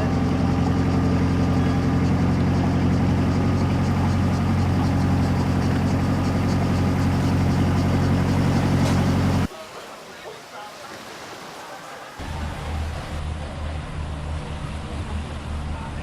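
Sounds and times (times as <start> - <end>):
engine humming steadily: 0.0 - 9.5, 12.2 - 16.0.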